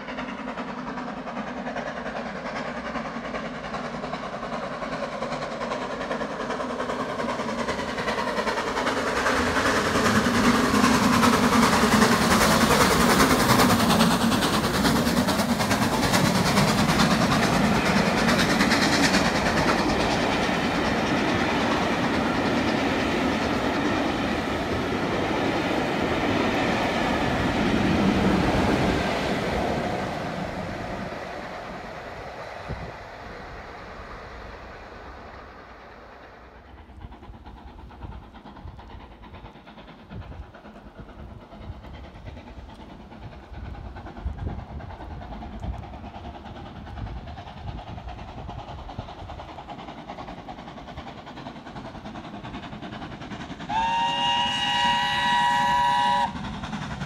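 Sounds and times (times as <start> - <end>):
carriages rolling on rails: 0.0 - 57.0
steam locomotive running: 0.0 - 57.0.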